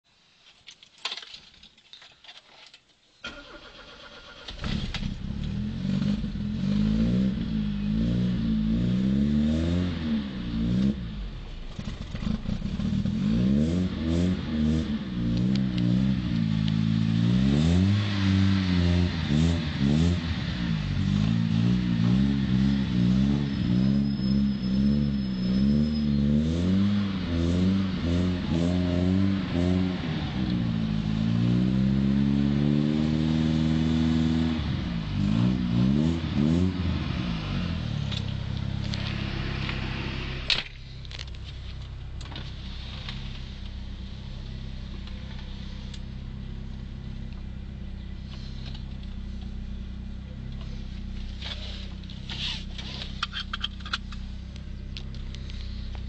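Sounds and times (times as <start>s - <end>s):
car engine revving: 3.3s - 56.0s.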